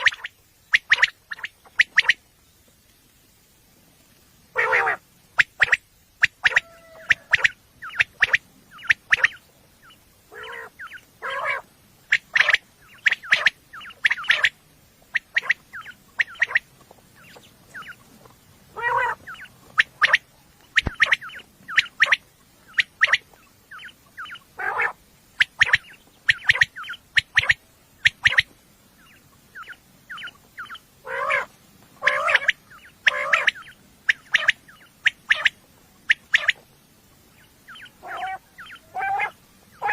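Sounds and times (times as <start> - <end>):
quail short sharp calls: 0.0 - 2.2, 4.5 - 18.1, 18.7 - 36.6, 37.4 - 39.9
quail longer lower calls: 0.0 - 2.3, 4.5 - 36.7, 37.4 - 39.9.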